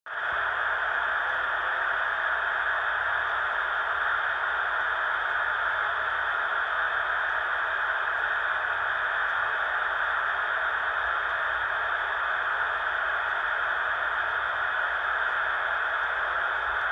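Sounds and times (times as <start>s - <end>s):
radio static hiss: 0.3s - 16.9s.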